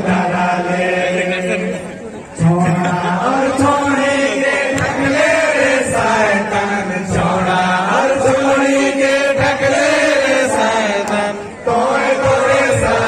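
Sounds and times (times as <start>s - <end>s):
man singing through loudspeaker: 0.0s - 13.0s.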